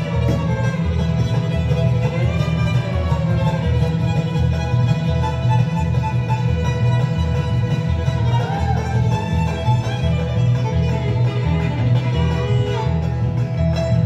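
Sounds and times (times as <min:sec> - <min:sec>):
acoustic guitar rhythm: 0:00.0 - 0:14.0
fiddle lead line: 0:00.0 - 0:14.0
upright bass: 0:00.0 - 0:14.0.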